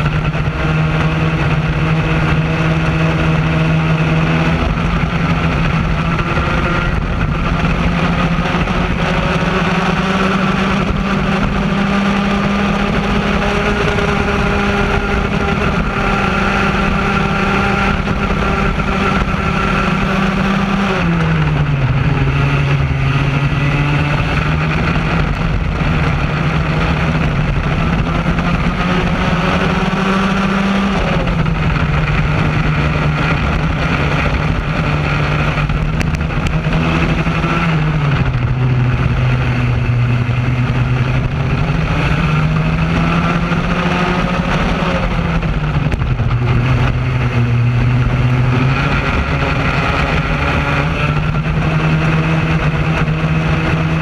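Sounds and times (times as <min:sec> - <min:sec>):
two-stroke kart engine racing: 0:00.0 - 0:54.0.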